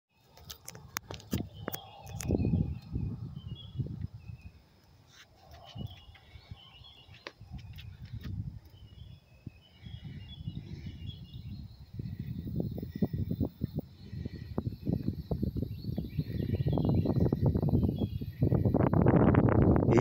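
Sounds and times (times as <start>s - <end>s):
small birds chirping: 0.1s - 20.0s
low rumbling on microphone: 1.4s - 4.5s, 5.7s - 20.0s.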